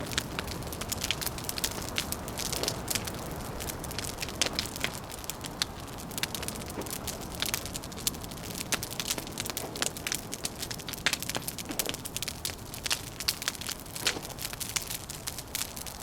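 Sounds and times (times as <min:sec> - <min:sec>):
low wind: 0:00.0 - 0:16.0
wood fire crackling: 0:00.0 - 0:16.0.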